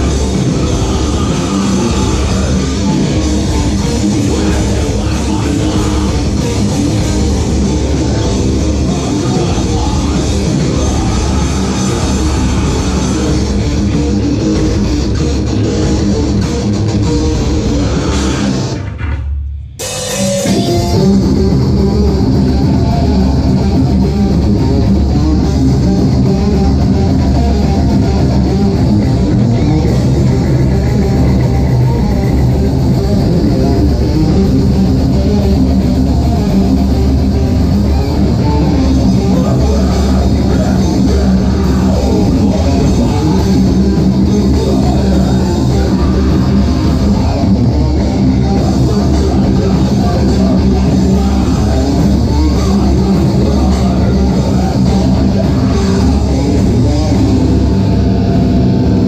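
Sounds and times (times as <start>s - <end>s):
live rock band playing: 0.0s - 19.2s, 19.8s - 59.0s.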